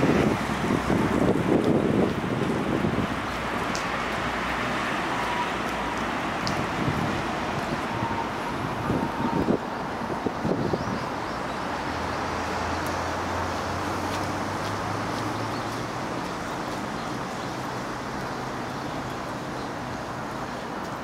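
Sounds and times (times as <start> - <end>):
distant road traffic hum: 0.0 - 21.0.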